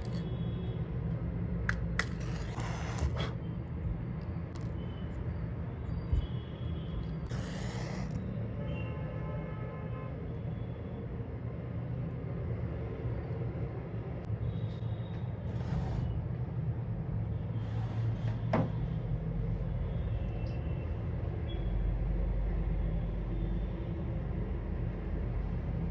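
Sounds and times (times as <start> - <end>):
city road traffic hum: 0.0 - 25.9.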